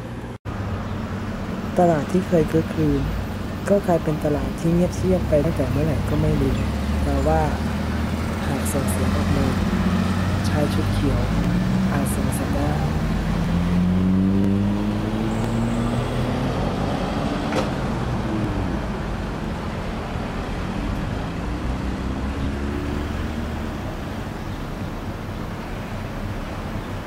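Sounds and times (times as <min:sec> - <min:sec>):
engines passing: 0:00.0 - 0:27.0
road traffic rumble: 0:00.0 - 0:27.0.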